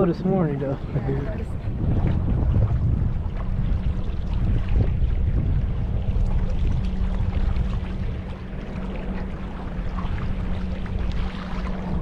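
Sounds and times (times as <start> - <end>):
water noise: 0.0 - 12.0
wind rumbling on microphone: 0.0 - 12.0.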